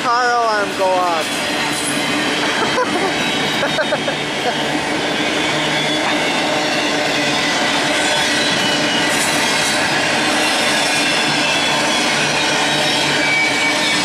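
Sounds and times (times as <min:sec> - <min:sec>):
freight train passing: 0:00.0 - 0:14.0
wheels rattling on rail: 0:00.0 - 0:14.0.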